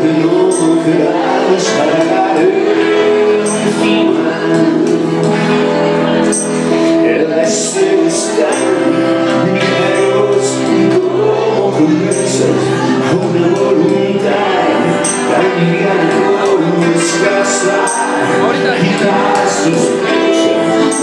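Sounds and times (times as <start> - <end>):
crowd voices: 0.0 - 21.0
live band with singer: 0.0 - 21.0.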